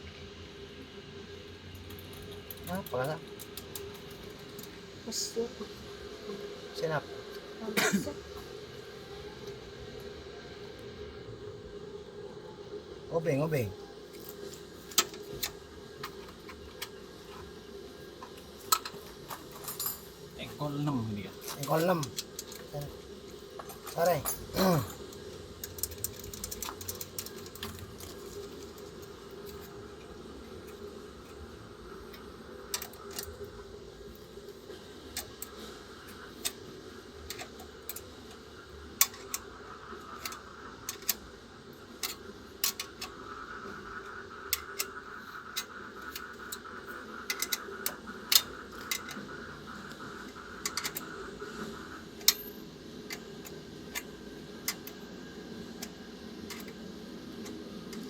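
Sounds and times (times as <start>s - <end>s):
faint high whir: 0.0s - 58.0s
steady low hum: 0.0s - 58.0s.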